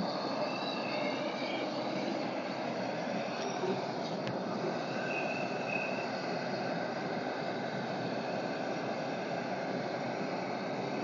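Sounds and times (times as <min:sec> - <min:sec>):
hot oil sizzling and roaring: 0:00.0 - 0:11.0.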